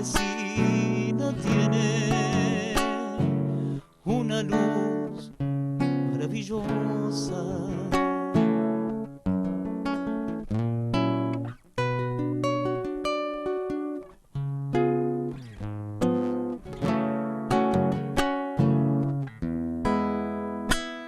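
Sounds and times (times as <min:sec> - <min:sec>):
acoustic guitar playing chords: 0:00.0 - 0:21.0.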